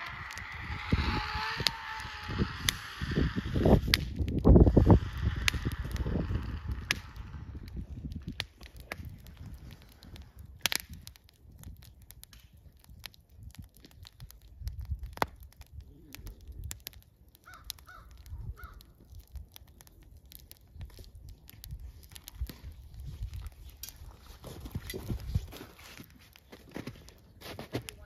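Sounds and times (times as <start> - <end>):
low fire rumble: 0.0 - 28.0
wood fire crackling and popping: 0.0 - 28.0.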